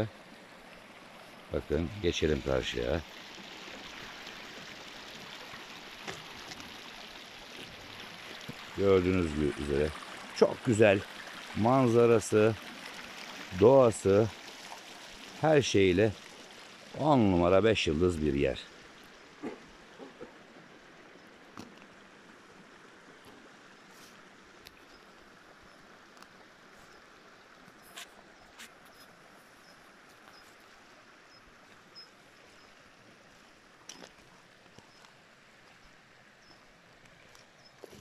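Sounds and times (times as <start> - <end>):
stream flowing over stones: 0.0 - 38.0.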